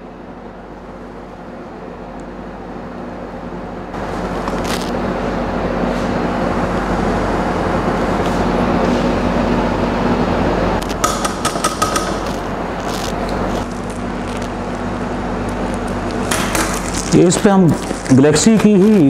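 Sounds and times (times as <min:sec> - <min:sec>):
kitchen background hum: 0:00.0 - 0:19.0.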